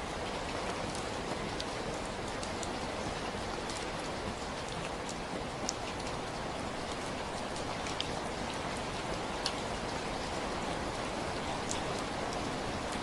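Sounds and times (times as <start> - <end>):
raindrops ticking on hard surface: 0.1 - 13.0.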